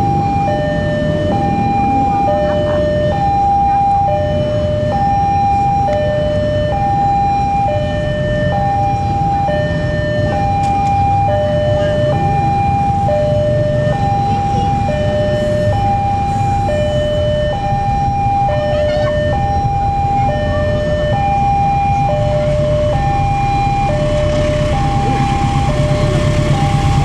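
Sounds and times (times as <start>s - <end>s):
level crossing two-tone alarm: 0.0s - 27.0s.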